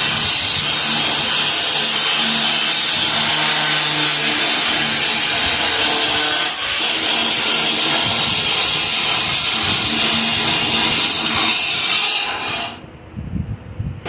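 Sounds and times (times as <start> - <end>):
power tool grinding steel: 0.0 - 12.8.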